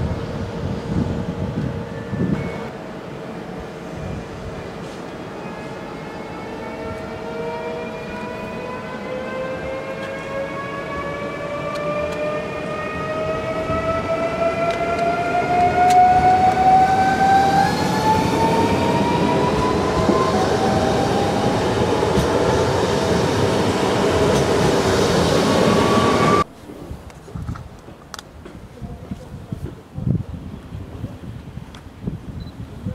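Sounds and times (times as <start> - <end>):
electric train traction whine: 0.0 - 26.5.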